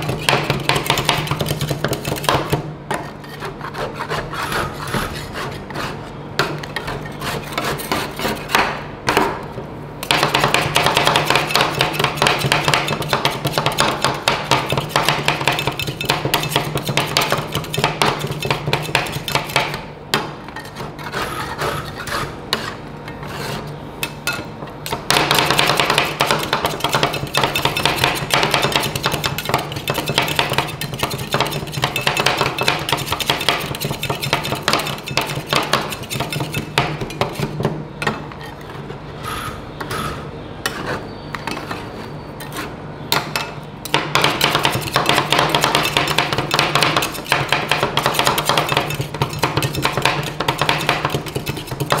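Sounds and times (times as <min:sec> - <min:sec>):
metal spatulas chopping and scraping: 0:00.0 - 0:09.2, 0:10.0 - 0:19.8, 0:20.4 - 0:38.8, 0:39.8 - 0:52.0.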